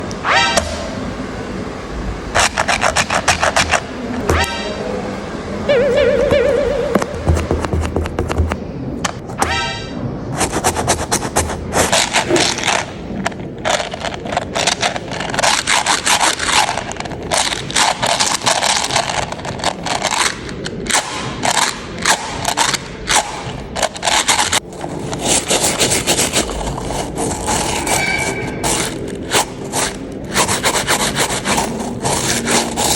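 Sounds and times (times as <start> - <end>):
clay kneaded by hand: 2.3 - 4.6, 6.0 - 9.5, 10.3 - 32.9.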